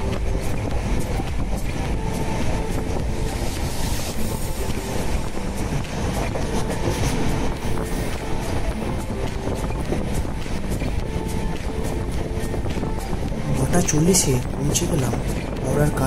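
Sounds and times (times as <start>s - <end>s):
wheels rumbling on rails: 0.0s - 16.0s.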